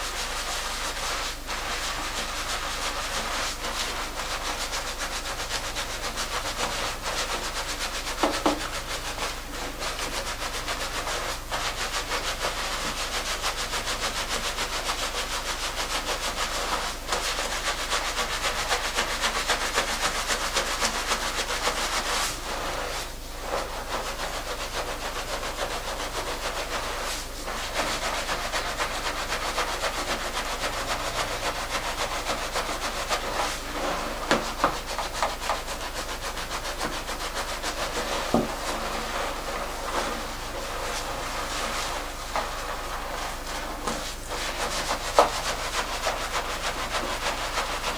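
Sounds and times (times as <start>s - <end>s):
hands rubbing shampoo lather in hair: 0.0s - 47.9s.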